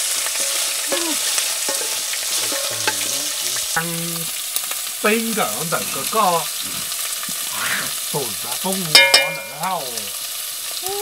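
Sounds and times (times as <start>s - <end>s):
steady sizzling: 0.0s - 11.0s.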